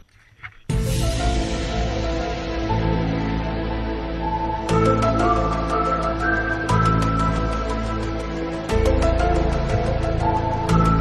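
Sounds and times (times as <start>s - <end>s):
background music of held notes: 0.7s - 11.0s.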